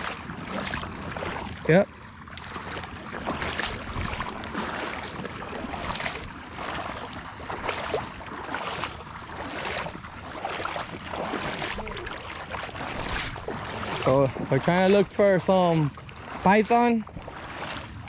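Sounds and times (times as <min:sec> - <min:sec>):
footsteps sloshing through water: 0:00.0 - 0:18.0.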